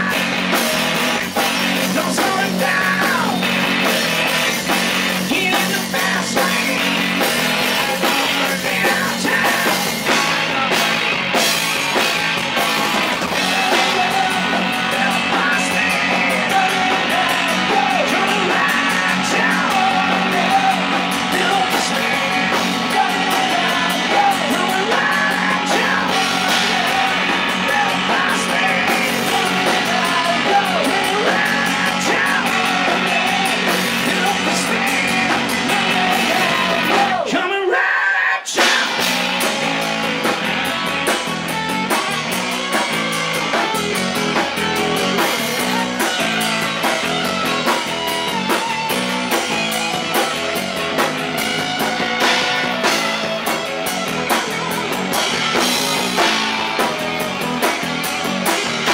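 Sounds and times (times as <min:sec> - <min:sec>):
distorted electric guitars: 0:00.0 - 0:37.8, 0:38.4 - 0:58.9
drums: 0:00.0 - 0:58.9.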